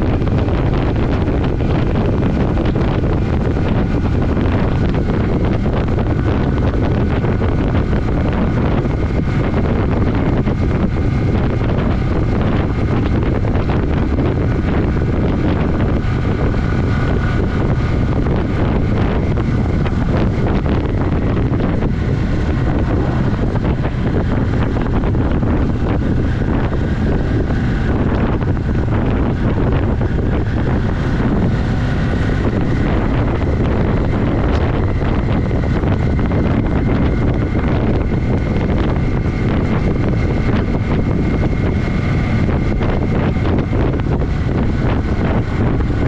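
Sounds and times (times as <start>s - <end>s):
motorcycle engine running: 0.0s - 46.0s
wind rush over microphone: 0.0s - 46.0s.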